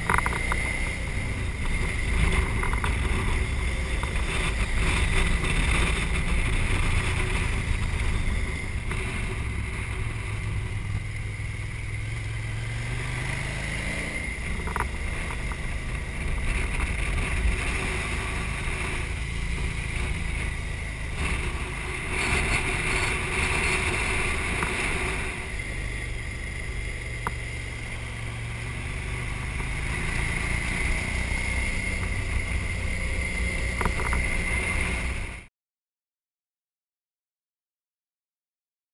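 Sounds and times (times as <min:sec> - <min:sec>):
motorcycle engine running: 0:00.0 - 0:35.5
wind rushing over microphone: 0:00.0 - 0:35.5.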